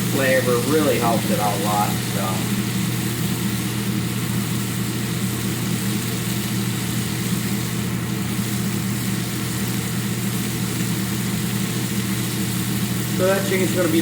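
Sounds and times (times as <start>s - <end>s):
chicken sizzling in a pan: 0.0s - 14.0s
low machine hum: 0.0s - 14.0s.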